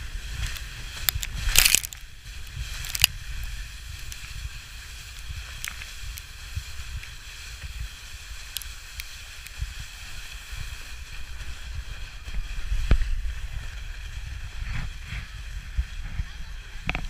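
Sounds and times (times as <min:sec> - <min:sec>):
sled scraping over snow: 0:00.0 - 0:17.0
wind on microphone: 0:00.0 - 0:17.0.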